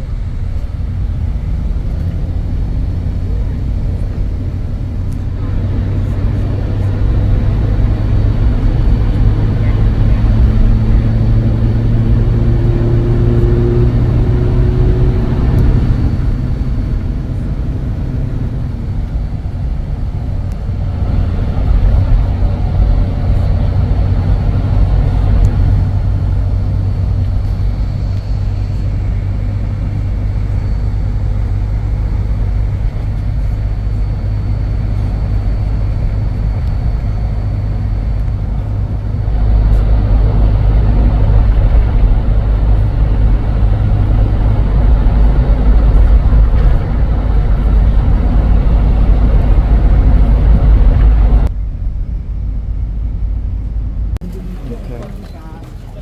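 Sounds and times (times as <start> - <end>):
vehicle engine and road hum: 0.0 - 56.0.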